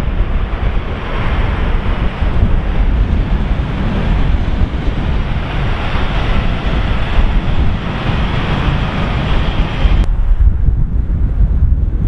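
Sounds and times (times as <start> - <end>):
gusty wind buffeting microphone: 0.0 - 12.0
jet airliner engine noise: 0.0 - 12.0.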